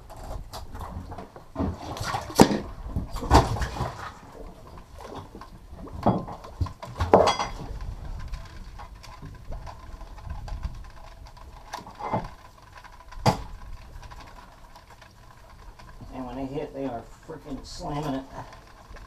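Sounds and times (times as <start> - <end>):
low steady rumble: 0.0 - 19.0
gear knocking on boat deck: 1.1 - 19.0.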